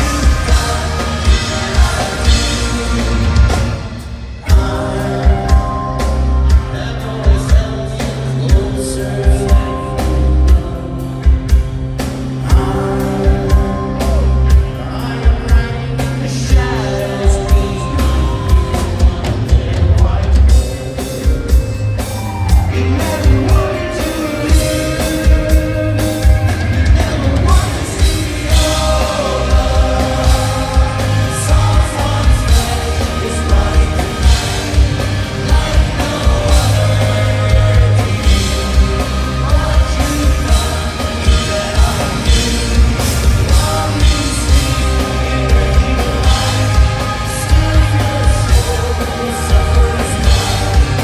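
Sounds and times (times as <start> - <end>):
live heavy rock band: 0.0 - 51.0
man singing lead vocals: 0.0 - 51.0.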